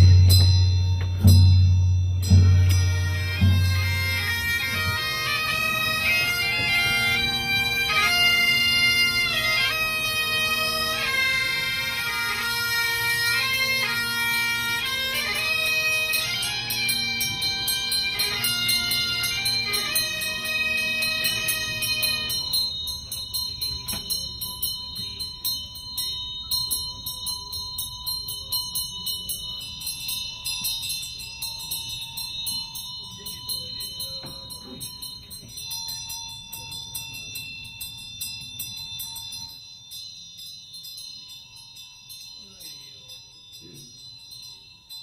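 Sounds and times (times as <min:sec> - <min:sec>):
bells jingling: 0:00.0 - 0:45.0
sustained high ringing tones: 0:00.0 - 0:45.0.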